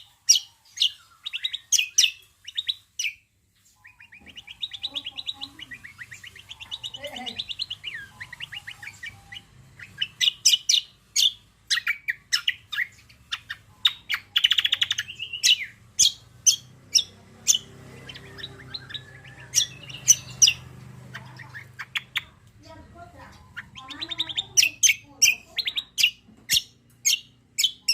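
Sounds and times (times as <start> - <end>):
songbird chirping: 0.0 - 27.9.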